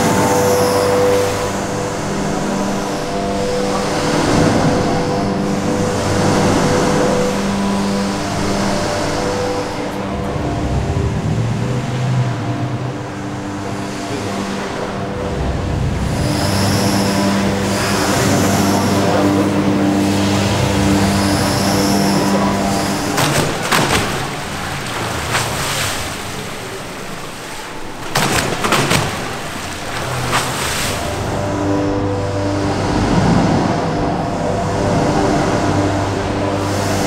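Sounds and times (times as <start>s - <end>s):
high whine: 0.0s - 37.0s
water rushing and splashing: 0.0s - 37.0s
wave machine humming: 0.0s - 37.0s.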